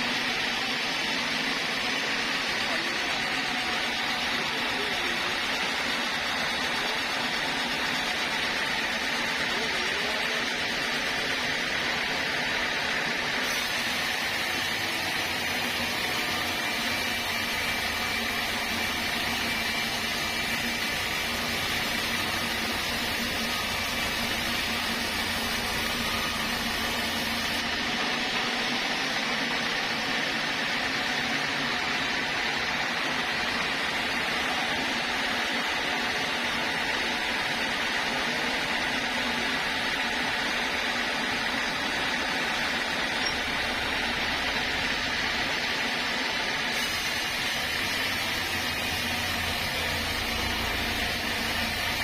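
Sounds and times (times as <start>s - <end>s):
sawmill saw cutting wood: 0.0s - 32.0s, 40.6s - 52.0s.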